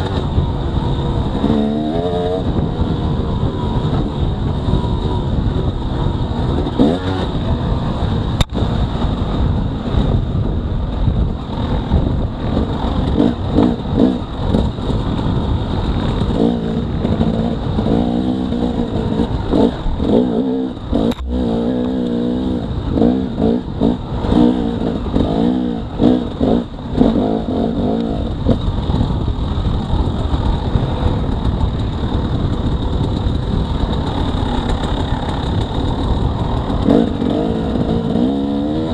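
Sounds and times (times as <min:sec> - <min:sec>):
dirt bike engine revving: 0:00.0 - 0:09.4, 0:11.6 - 0:28.9, 0:33.8 - 0:38.9
wind rumble: 0:00.0 - 0:38.9.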